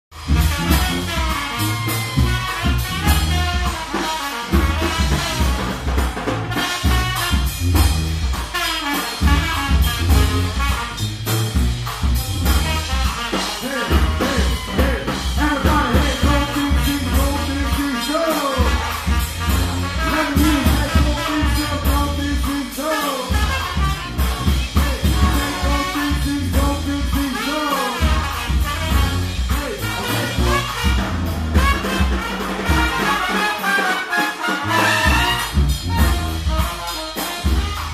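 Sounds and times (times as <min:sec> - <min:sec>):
sousaphone bass line: 0:00.1 - 0:03.8, 0:04.5 - 0:08.4, 0:09.2 - 0:33.0, 0:34.7 - 0:36.7
drum kit steady beat: 0:00.1 - 0:37.9
trombones trumpet and saxophone: 0:00.1 - 0:37.9.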